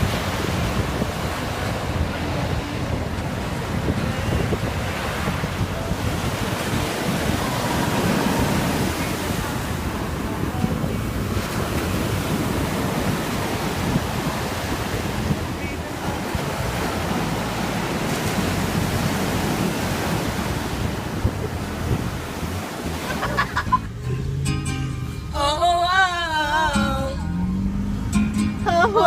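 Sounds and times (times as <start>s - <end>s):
ocean surf washing on beach: 0.0s - 24.0s
wind noise on microphone: 0.0s - 29.0s.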